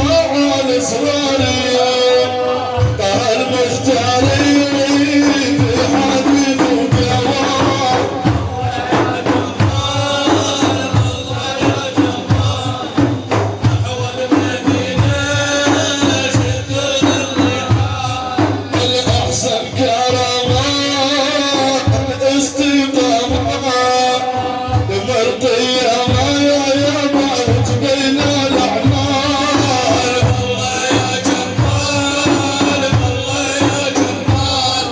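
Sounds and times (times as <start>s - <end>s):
hand percussion beat: 0.0s - 34.9s.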